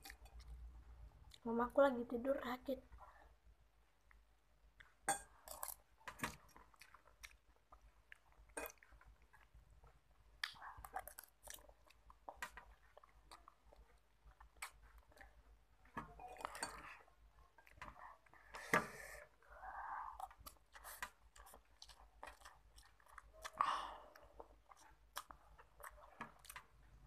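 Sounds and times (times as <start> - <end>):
person chewing food: 0.0 - 1.4, 4.0 - 27.0.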